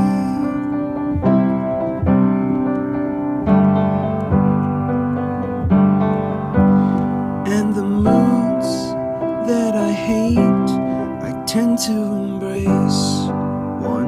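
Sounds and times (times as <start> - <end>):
piano playing sustained chords: 0.0 - 14.0.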